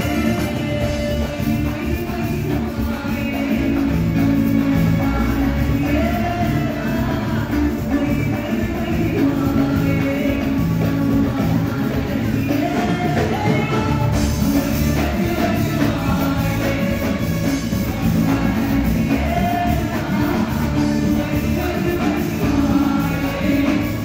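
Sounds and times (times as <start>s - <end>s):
live band music: 0.0s - 24.0s
woman singing into microphone: 0.0s - 24.0s.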